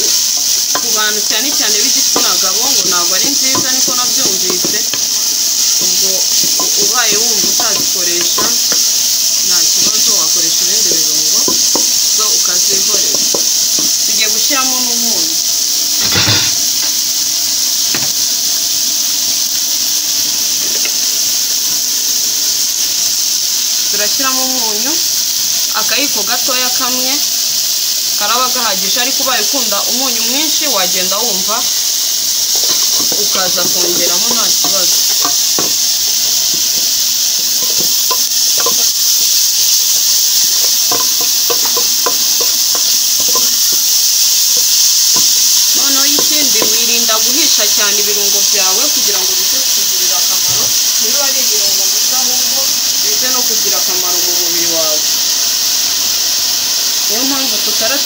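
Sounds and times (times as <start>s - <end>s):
vegetables sizzling in a pot: 0.0s - 58.0s.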